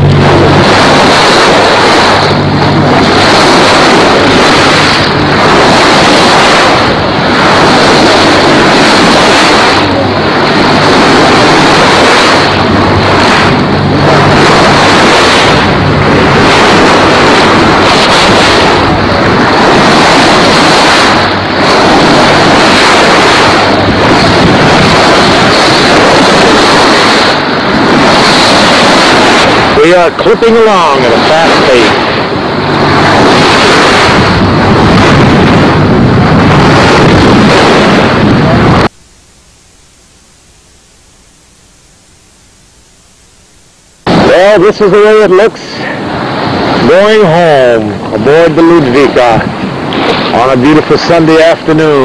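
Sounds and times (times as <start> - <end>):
wind buffeting microphone: 0.0 - 40.1, 42.5 - 52.0
water rushing past hull: 0.0 - 52.0.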